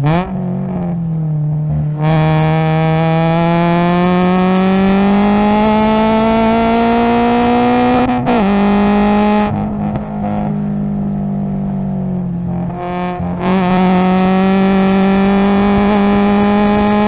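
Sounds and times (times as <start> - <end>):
car engine revving at full throttle: 0.0 - 17.0.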